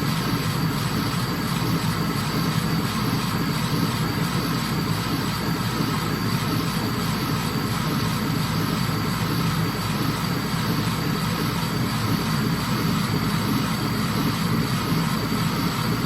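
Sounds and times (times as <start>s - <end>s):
laser engraver fans and motors whirring: 0.0s - 16.0s.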